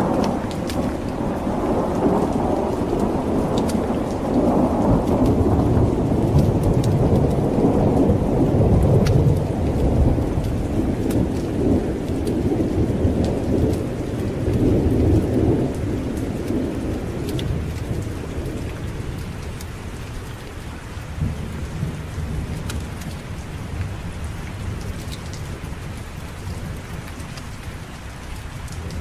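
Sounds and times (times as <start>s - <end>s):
rolling thunder: 0.0s - 20.2s, 21.1s - 27.6s
heavy rain: 0.0s - 29.0s.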